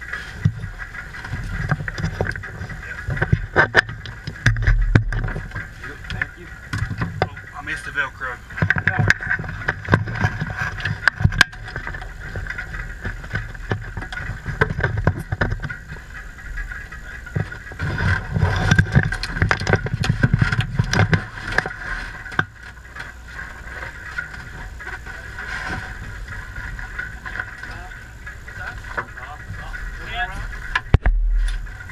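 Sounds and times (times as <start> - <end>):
knocks clicks and rustling in cockpit: 0.0 - 31.9
steady high whine: 0.0 - 31.9.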